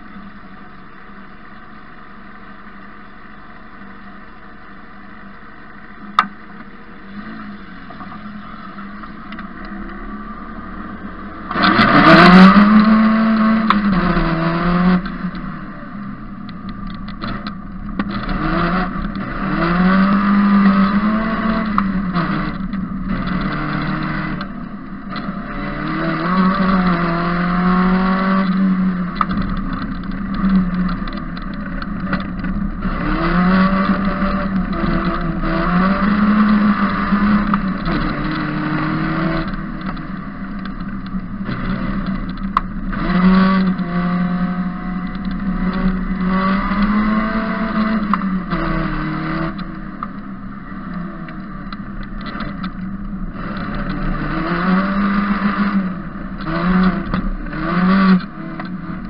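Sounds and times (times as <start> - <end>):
race car engine revving: 7.0 - 59.0.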